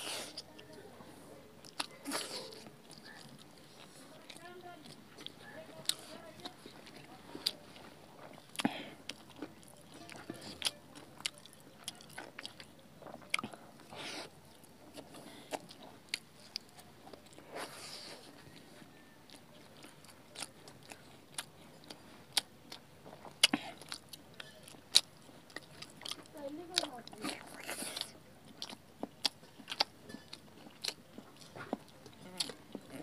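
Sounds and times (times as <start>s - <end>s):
people chewing and biting: 0.0s - 33.0s.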